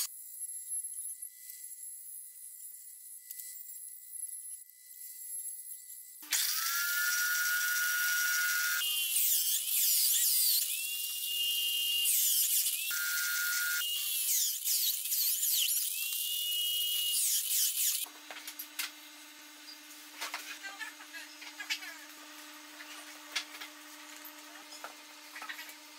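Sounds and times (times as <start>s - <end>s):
electric drill boring wood: 1.8s - 25.9s.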